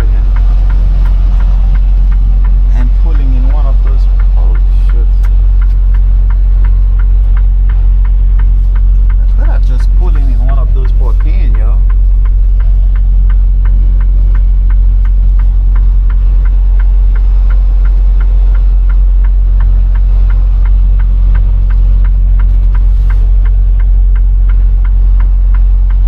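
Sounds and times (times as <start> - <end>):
light regular ticking: 0.0 - 26.0
truck engine droning: 0.0 - 26.0.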